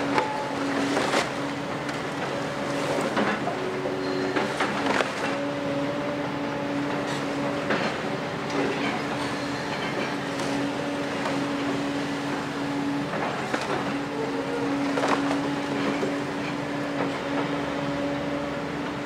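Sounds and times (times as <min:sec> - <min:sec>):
excavator diesel engine drone: 0:00.0 - 0:19.0.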